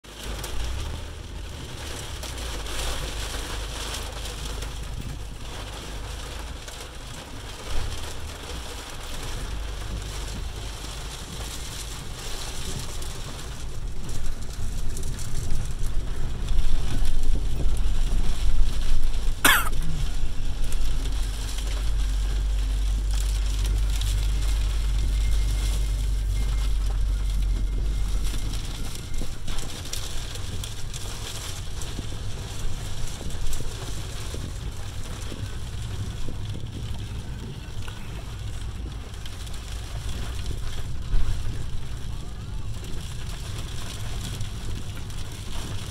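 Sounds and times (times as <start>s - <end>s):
car engine and tyres rumbling: 0.0s - 45.9s
rain hissing on glass: 0.1s - 45.9s.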